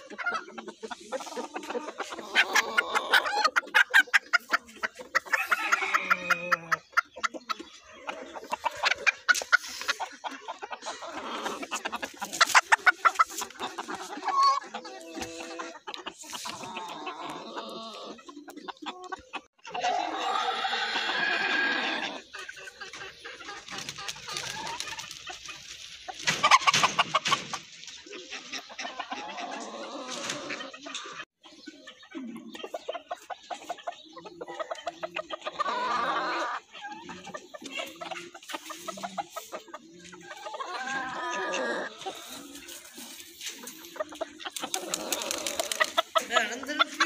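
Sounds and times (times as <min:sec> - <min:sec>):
chickens clucking and calling: 0:00.0 - 0:47.0.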